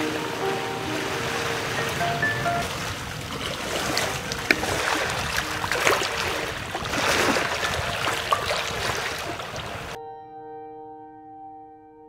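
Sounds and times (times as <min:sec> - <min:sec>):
water splashing in bucket: 0:00.0 - 0:10.0.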